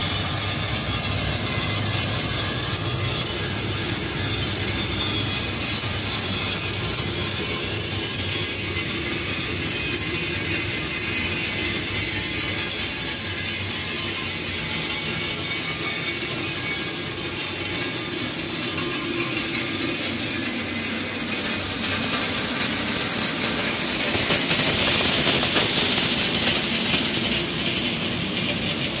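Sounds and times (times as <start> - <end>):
conveyors and rotating drum: 0.0 - 29.0
gravel pouring off a conveyor: 0.0 - 29.0.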